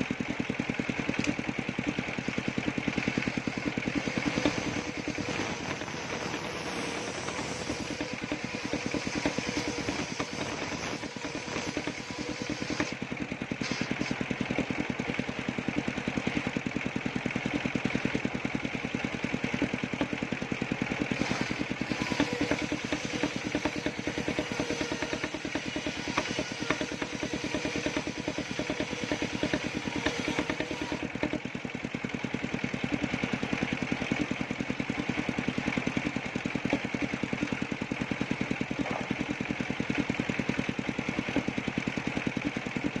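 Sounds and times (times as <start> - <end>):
sawmill engine pulsing: 0.0 - 43.0.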